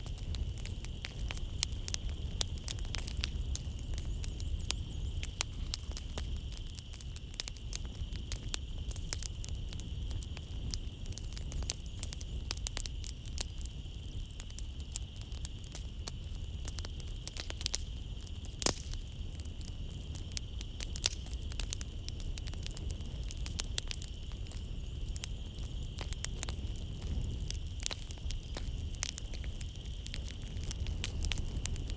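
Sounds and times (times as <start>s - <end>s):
low rumble of flames: 0.0s - 31.9s
night insects chirring: 0.0s - 31.9s
wood fire crackling and popping: 0.0s - 31.9s.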